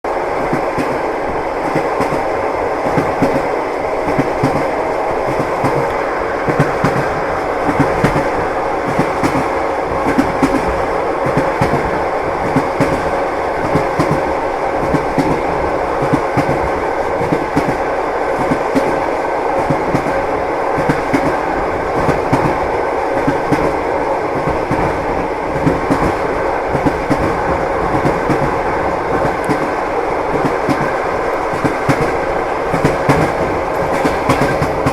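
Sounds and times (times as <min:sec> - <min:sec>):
train rolling rumble: 0:00.1 - 0:34.9.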